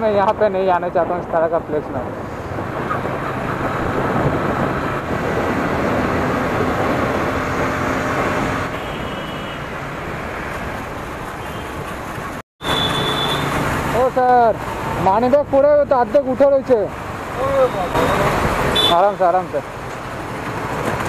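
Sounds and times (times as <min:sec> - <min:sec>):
traffic: 0:00.0 - 0:21.0
wind and road noise: 0:00.0 - 0:21.0.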